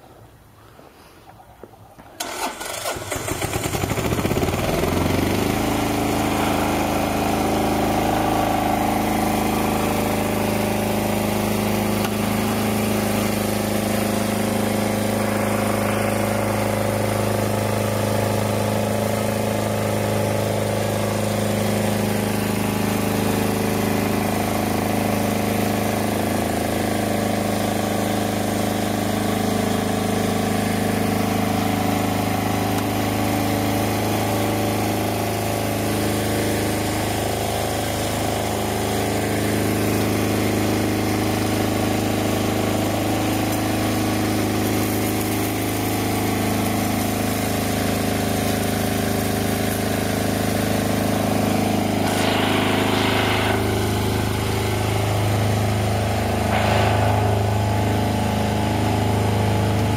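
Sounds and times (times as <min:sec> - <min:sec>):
engine running steadily: 0:02.2 - 0:59.9.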